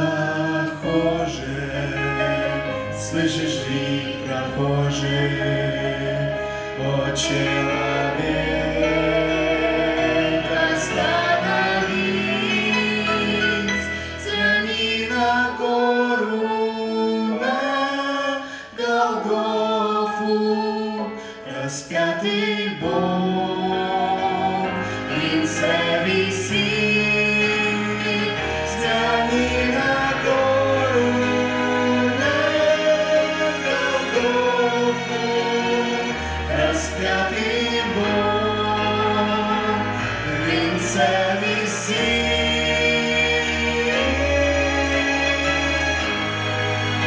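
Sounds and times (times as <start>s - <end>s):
choir-like backing vocals: 0.0s - 47.0s.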